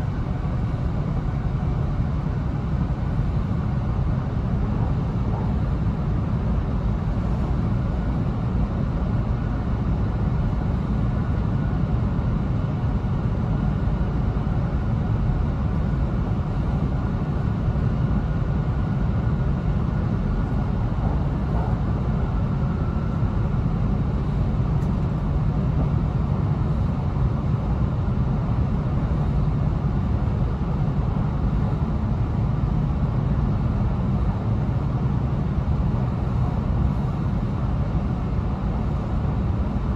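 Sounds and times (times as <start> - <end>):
train interior low rumble: 0.0 - 39.9.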